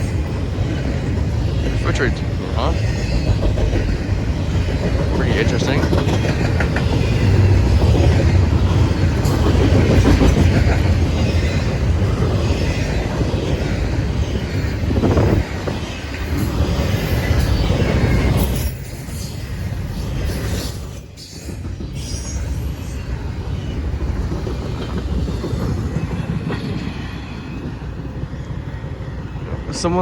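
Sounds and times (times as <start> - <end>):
freight train rumbling over rails: 0.0 - 30.0.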